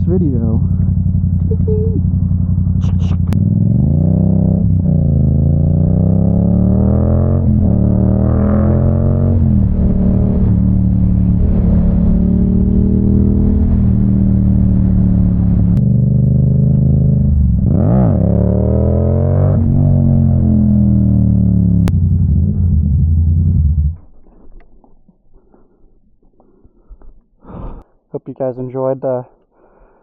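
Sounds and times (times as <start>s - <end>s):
motorcycle engine accelerating: 0.0s - 24.4s.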